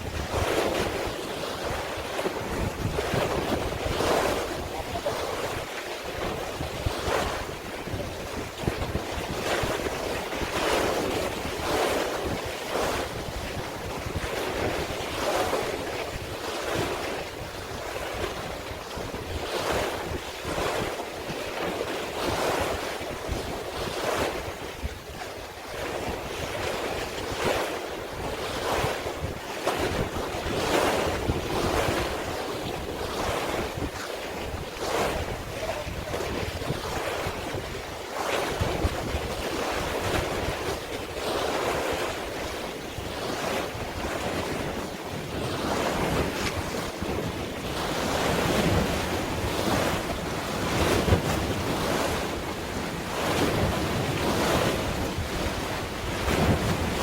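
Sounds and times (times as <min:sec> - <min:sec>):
sea water splashing: 0:00.0 - 0:57.0
wind buffeting microphone: 0:00.0 - 0:57.0.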